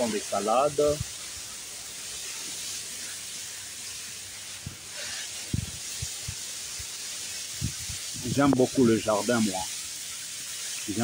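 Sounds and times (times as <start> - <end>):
outdoor garden hiss: 0.0 - 11.0.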